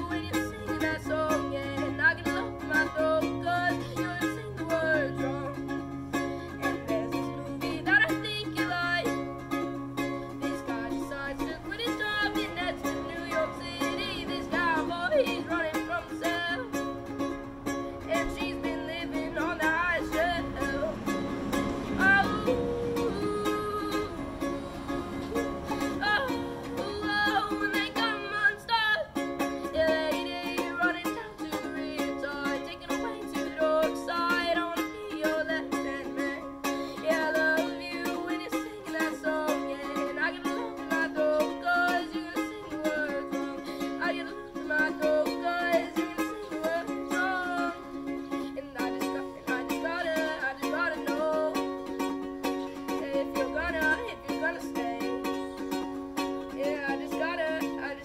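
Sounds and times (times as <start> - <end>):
person singing: 0.0 - 58.0
ukulele strumming: 0.0 - 58.0.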